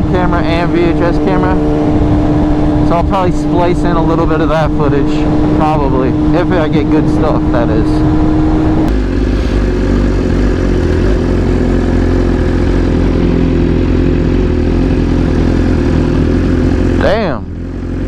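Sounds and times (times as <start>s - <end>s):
motorcycle engine humming steadily: 0.0s - 18.0s.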